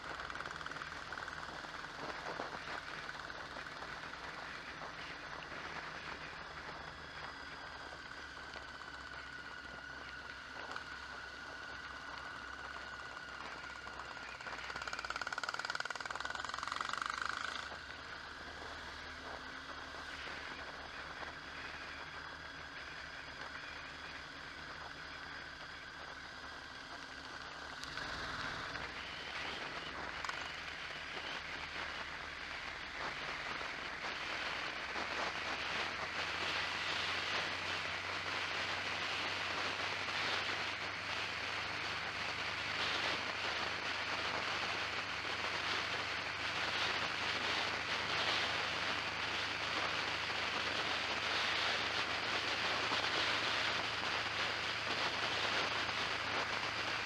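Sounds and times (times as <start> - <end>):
low engine hum: 0.0 - 57.0
wind and road noise: 0.0 - 57.0.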